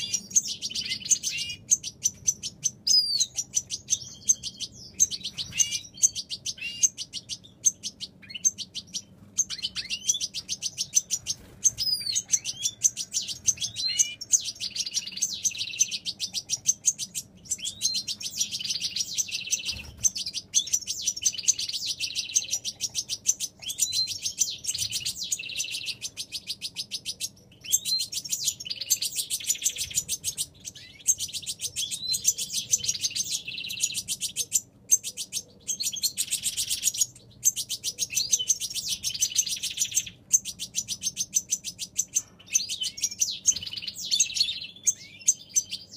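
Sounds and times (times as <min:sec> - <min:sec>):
young birds begging chirps: 0:00.0 - 0:45.9.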